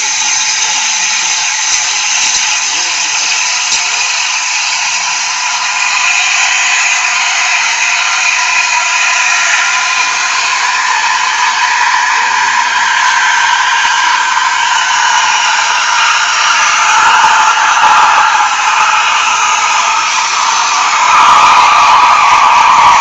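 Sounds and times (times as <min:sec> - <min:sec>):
steam wand hissing with whistle: 0:00.0 - 0:23.0.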